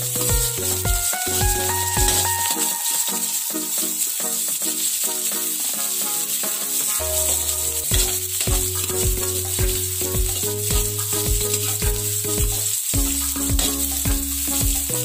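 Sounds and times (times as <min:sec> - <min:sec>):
music with steady beat: 0:00.0 - 0:04.0, 0:06.9 - 0:15.0
garlic and onion sizzling in oil: 0:00.0 - 0:15.0.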